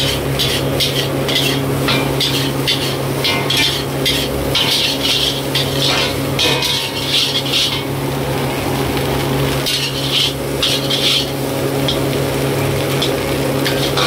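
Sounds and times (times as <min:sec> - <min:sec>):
metal spatula scraping wok: 0:00.0 - 0:08.1, 0:09.5 - 0:12.2, 0:13.0 - 0:14.0.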